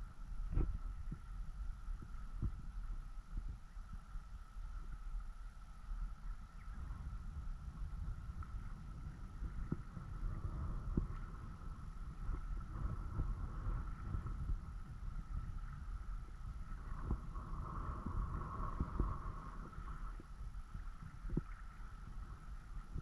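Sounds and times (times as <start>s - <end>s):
wind buffeting microphone: 0.0s - 4.2s, 6.1s - 23.0s
faint steady high hum: 0.0s - 23.0s.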